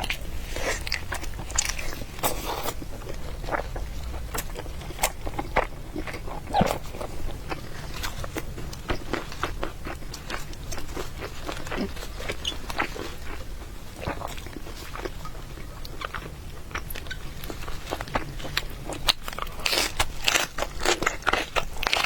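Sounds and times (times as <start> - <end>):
chewing food: 0.0 - 22.0.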